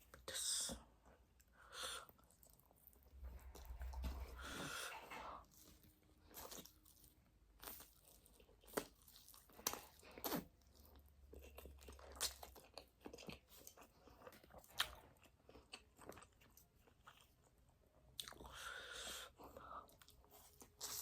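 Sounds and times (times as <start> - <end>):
person chewing noodles: 0.0 - 21.0.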